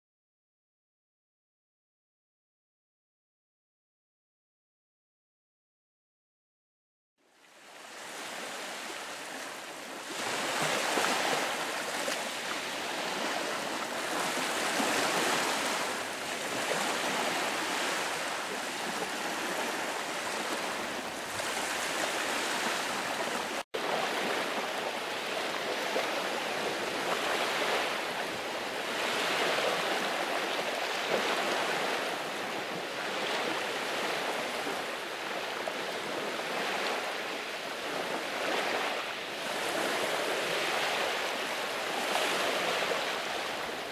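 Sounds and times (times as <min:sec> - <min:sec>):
small waves washing up beach: 0:07.2 - 0:43.9.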